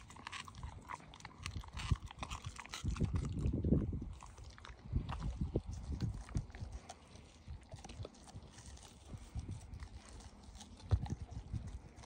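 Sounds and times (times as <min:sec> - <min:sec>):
dog chewing and crunching meat: 0:00.0 - 0:12.0
teeth clicking: 0:00.0 - 0:12.0.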